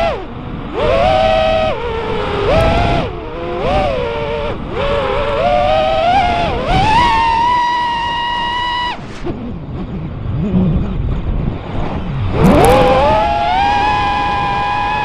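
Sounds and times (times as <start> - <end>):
drone motors whining: 0.0 - 15.0
rushing noise: 0.0 - 15.0.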